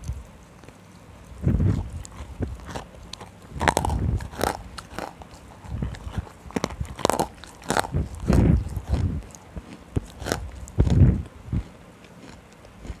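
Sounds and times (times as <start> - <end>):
crunching while chewing: 0.0 - 13.0
quiet chewing: 0.0 - 13.0.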